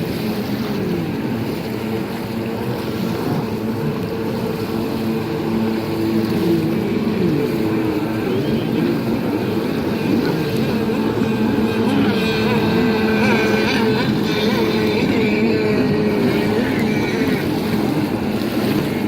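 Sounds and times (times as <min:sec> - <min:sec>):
jet ski engines racing: 0:00.0 - 0:19.0.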